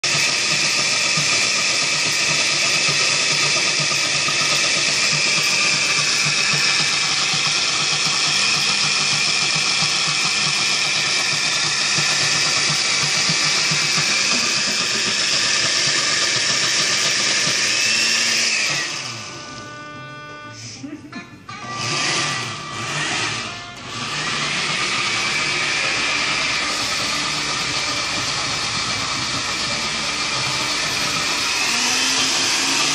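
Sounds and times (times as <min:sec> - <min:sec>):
blender running: 0:00.0 - 0:20.5, 0:21.5 - 0:32.9.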